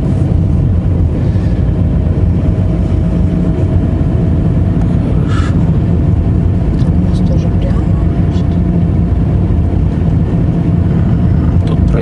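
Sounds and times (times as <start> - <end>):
car engine and road rumble: 0.0 - 12.0
faint steady whine: 0.0 - 12.0.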